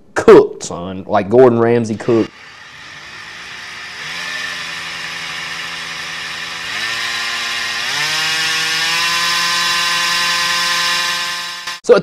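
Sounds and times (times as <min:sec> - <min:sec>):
differential whining: 0:01.9 - 0:11.9.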